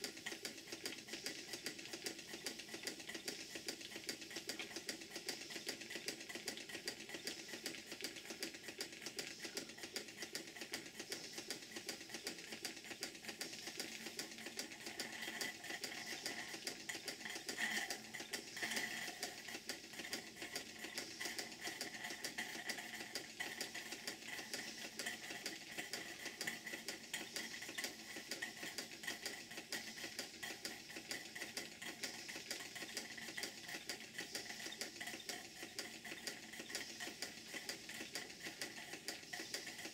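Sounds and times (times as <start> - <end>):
model steam engine ticking clatter: 0.0 - 39.9.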